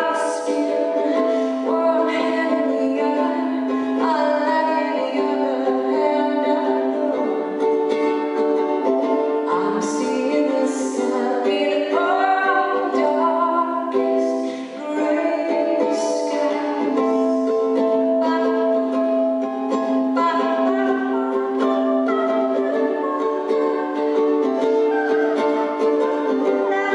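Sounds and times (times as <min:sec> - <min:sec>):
woman singing: 0:00.0 - 0:07.7, 0:08.9 - 0:26.9
ukulele strumming: 0:00.0 - 0:26.9.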